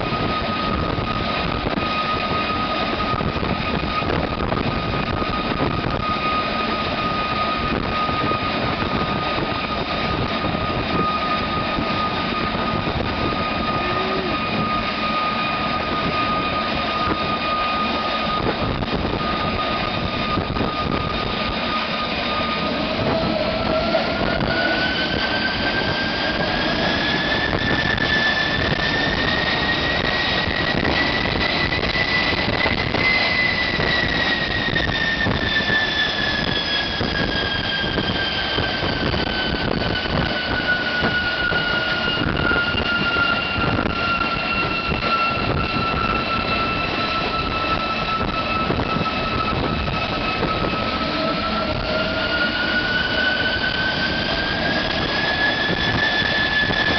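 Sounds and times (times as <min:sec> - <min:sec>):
high engine whine: 0:00.0 - 0:56.9
turbojet engine roaring: 0:00.0 - 0:56.9.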